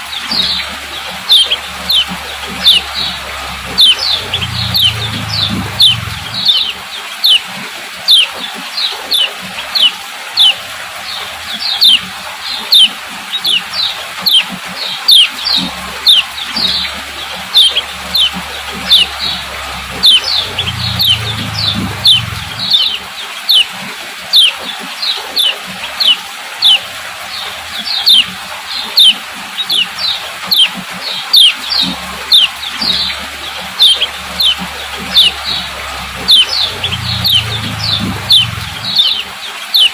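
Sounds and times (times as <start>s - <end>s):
bird chirping call: 0.0s - 7.4s, 8.1s - 10.6s, 11.6s - 12.0s, 12.6s - 26.9s, 27.8s - 39.9s.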